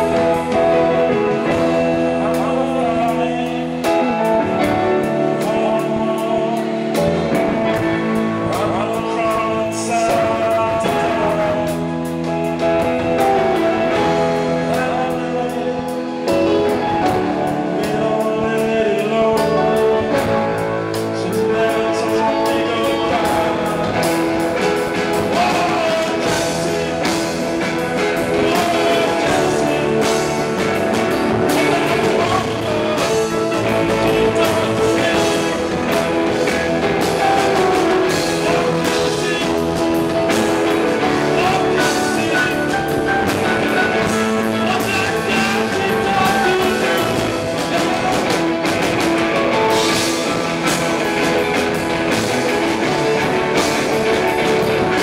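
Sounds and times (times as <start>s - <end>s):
rock music with guitar: 0.0s - 55.0s.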